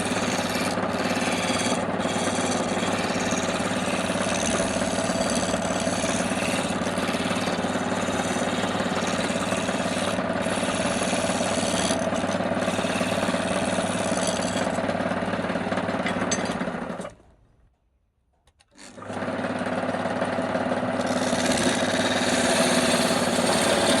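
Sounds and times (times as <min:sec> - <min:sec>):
wood lathe humming: 0:00.0 - 0:17.0, 0:18.8 - 0:24.0.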